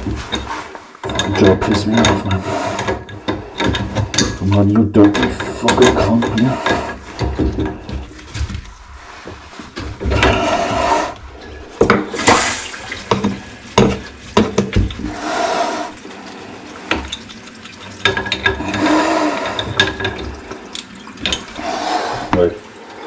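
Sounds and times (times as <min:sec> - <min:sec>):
water rushing into toilet: 0:00.0 - 0:04.5, 0:05.1 - 0:23.0.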